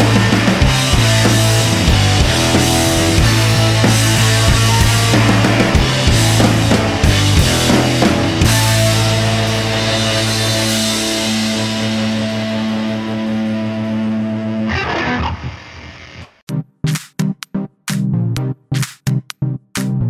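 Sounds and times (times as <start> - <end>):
rock music: 0.0 - 20.0.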